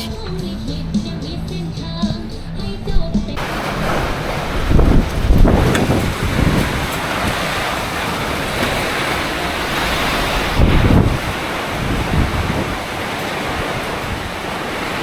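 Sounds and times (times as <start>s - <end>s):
storm wind buffeting microphone: 2.6s - 15.0s.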